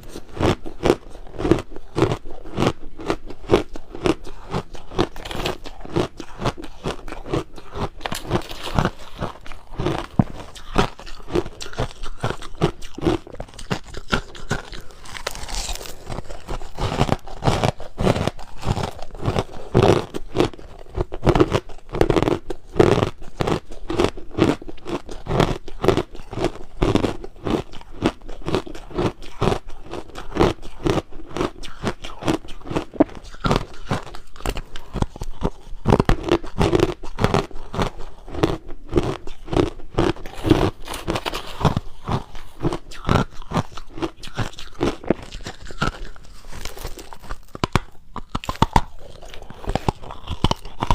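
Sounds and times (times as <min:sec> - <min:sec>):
crushed ice being chewed: 0:00.0 - 0:50.9.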